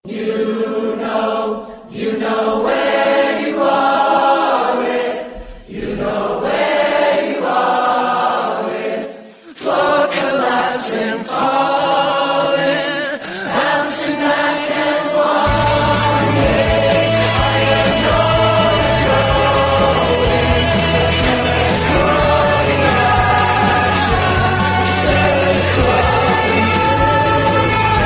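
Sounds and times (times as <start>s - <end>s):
choir singing held notes: 0.0s - 28.0s.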